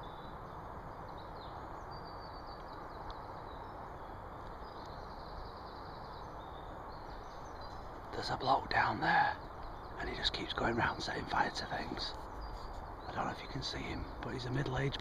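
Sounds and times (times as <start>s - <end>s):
small birds chirping: 0.0s - 15.0s
steady background noise: 0.0s - 15.0s.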